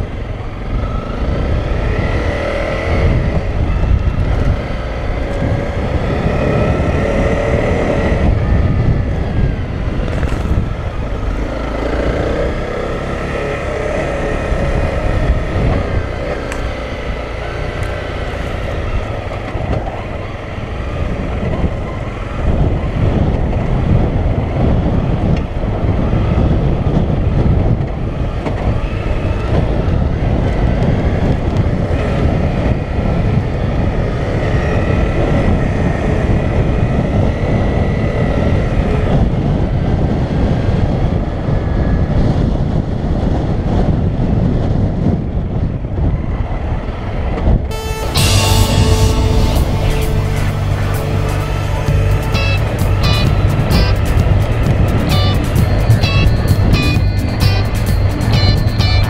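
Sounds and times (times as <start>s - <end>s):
motorcycle engine revving: 0.0s - 39.3s, 47.7s - 59.0s
wind on microphone: 0.0s - 59.0s.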